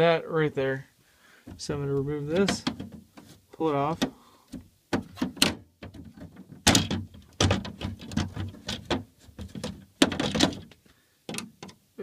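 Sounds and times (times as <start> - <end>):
plastic scraping and knocking: 1.5 - 11.8.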